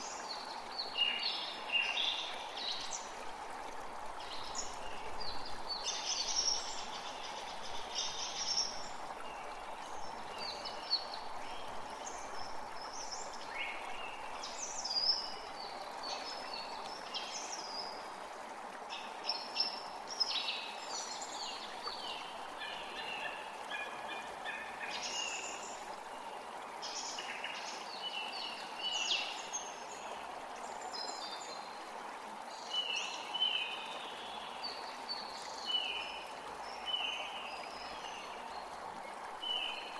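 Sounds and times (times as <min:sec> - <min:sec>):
forest creek running: 0:00.0 - 0:39.9.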